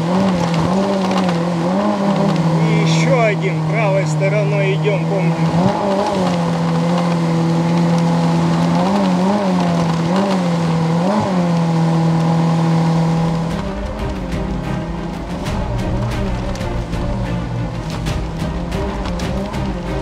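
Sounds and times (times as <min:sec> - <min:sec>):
boat outboard motor running: 0:00.0 - 0:20.0.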